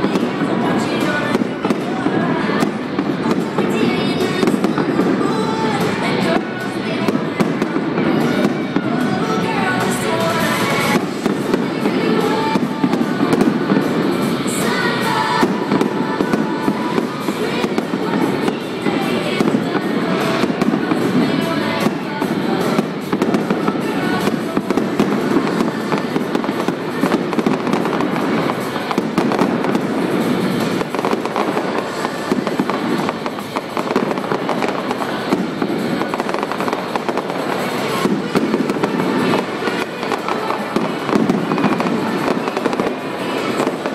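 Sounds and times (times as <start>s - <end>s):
fireworks bangs and crackles: 0.0s - 43.9s
music playing: 0.0s - 43.9s.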